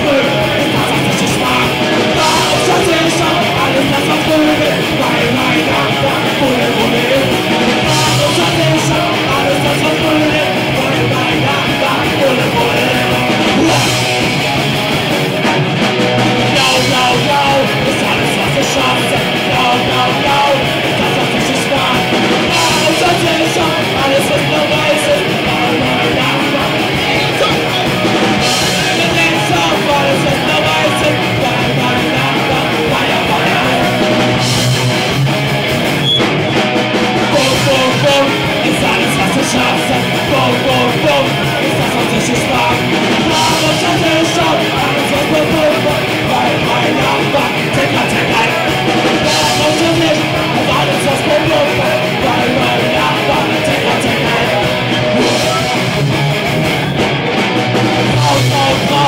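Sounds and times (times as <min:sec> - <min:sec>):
singer through a microphone: 0:00.0 - 0:14.4, 0:16.4 - 0:35.1, 0:37.2 - 0:55.9, 0:58.1 - 0:59.0
rock band playing live: 0:00.0 - 0:59.0.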